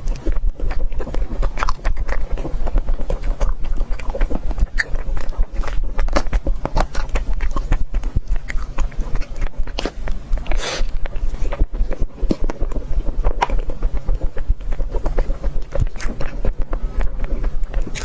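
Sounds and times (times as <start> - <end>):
person chewing crunchy food: 0.0 - 18.0
steady low hum: 0.0 - 18.0.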